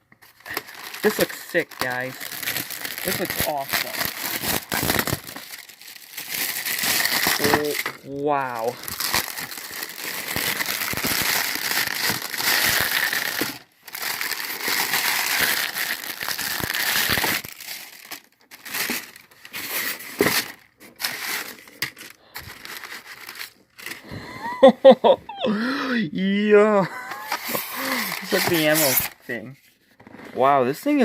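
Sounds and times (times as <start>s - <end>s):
packaging crumpling and rustling: 0.2s - 24.0s, 27.1s - 30.4s.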